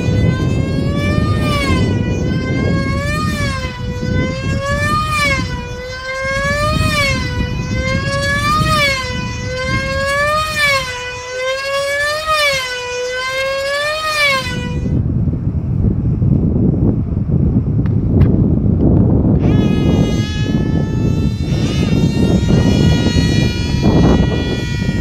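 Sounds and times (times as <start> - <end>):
model plane engine revving: 0.0 - 15.0, 19.4 - 25.0.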